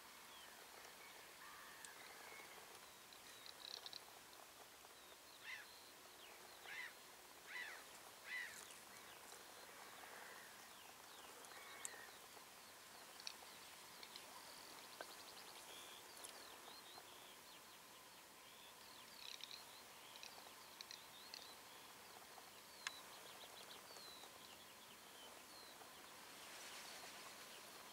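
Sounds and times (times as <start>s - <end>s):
faint marsh ambience: 0.0s - 27.9s
faint bird chirps: 4.8s - 27.9s.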